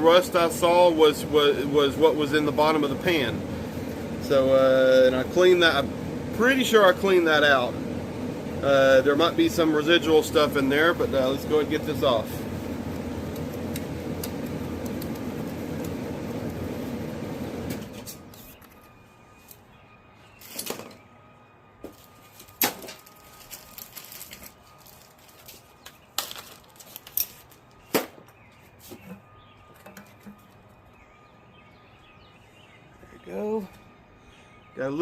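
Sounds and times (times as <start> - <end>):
steady mechanical noise: 0.0 - 35.0.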